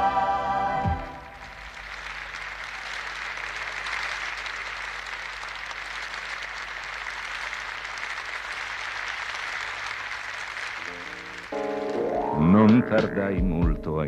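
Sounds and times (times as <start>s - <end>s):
audience applauding: 0.9s - 13.1s.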